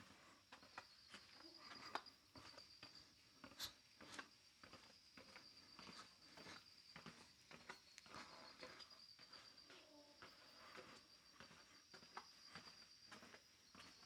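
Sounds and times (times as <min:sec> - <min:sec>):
cricket trill: 0:00.6 - 0:14.0.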